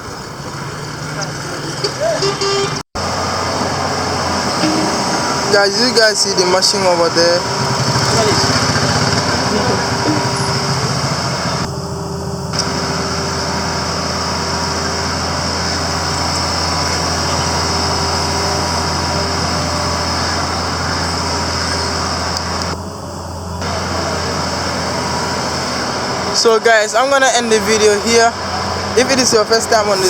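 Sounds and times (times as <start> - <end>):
construction machinery engine: 0.0 - 30.0
road traffic: 0.0 - 30.0.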